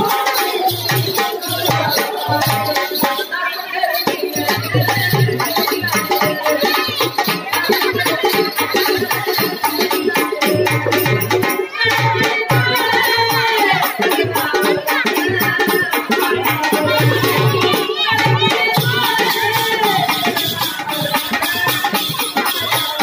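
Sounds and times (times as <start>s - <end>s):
jingling rattling percussion: 0.0s - 23.0s
person singing: 0.0s - 23.0s
steady drum beat: 0.0s - 23.0s.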